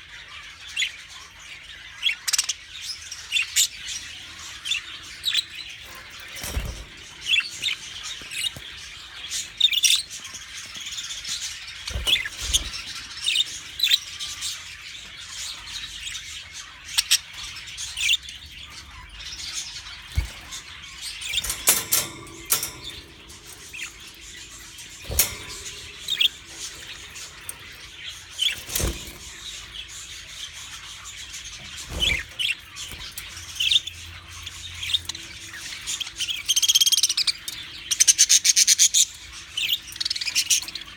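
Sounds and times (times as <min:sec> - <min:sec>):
budgerigars chirping: 0:00.0 - 0:40.9.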